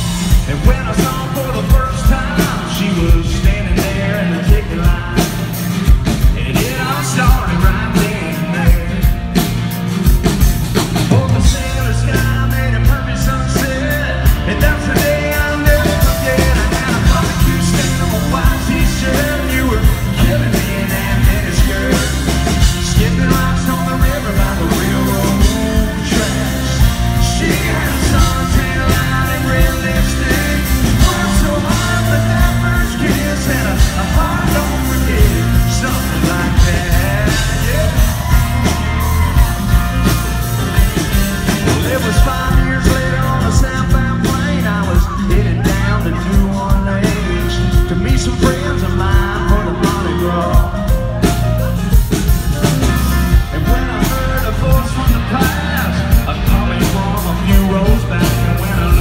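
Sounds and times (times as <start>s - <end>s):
drum-kit beat: 0.0s - 59.0s
electric guitar: 0.0s - 59.0s
heavy bass: 0.0s - 59.0s
man singing: 0.0s - 59.0s.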